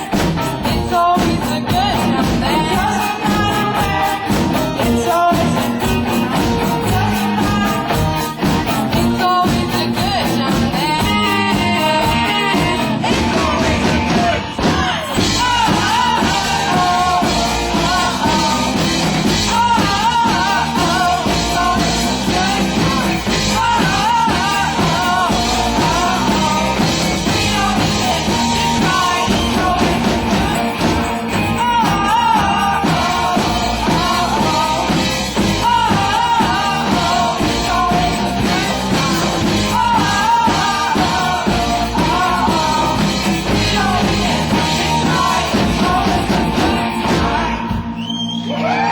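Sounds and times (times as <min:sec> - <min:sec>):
rock song with vocals: 0:00.0 - 0:48.9.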